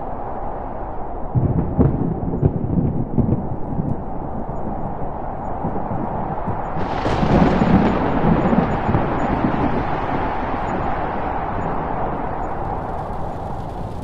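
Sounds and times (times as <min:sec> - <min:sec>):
deep continuous rumbling: 0:00.0 - 0:14.0.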